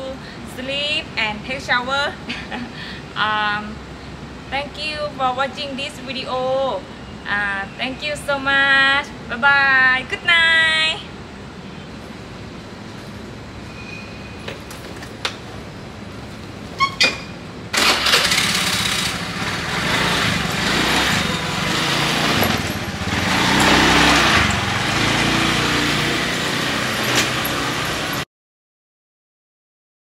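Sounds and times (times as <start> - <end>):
street traffic engines: 0.0 - 28.2.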